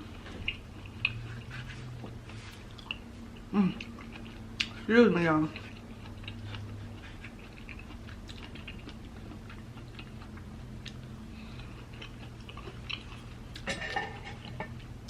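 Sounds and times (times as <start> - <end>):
person chewing: 0.0 - 4.9, 5.5 - 15.0
low steady hum: 0.0 - 15.0.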